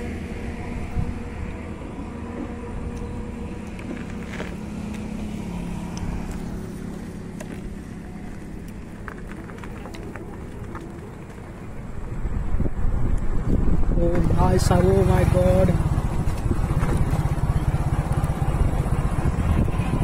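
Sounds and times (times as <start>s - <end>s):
low road rumble: 0.0s - 20.0s
vehicle engine hum: 0.0s - 20.0s.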